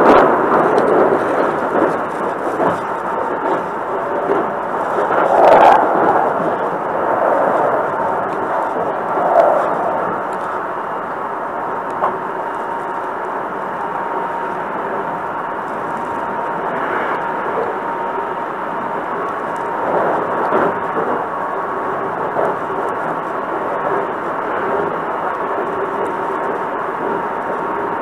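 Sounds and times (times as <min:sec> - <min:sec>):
faint steady whine: 0:00.0 - 0:28.0
train rumbling: 0:00.0 - 0:28.0.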